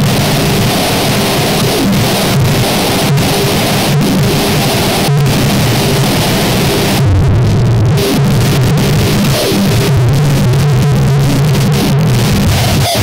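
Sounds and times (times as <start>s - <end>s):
low droning hum: 0.0s - 12.5s
distorted electronic noise: 0.0s - 13.0s.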